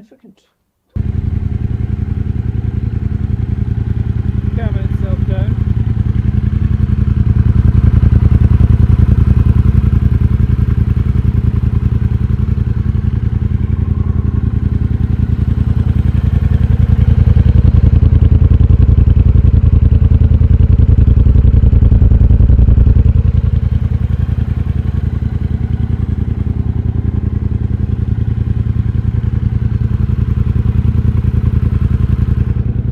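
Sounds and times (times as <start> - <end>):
motorcycle engine revving and idling: 1.0 - 32.9.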